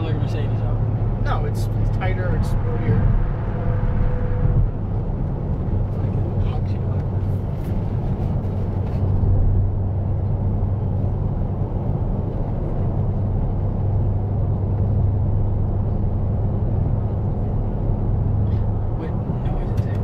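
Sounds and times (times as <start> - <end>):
car cabin drone: 0.0 - 20.0
tyre and road noise: 0.0 - 20.0.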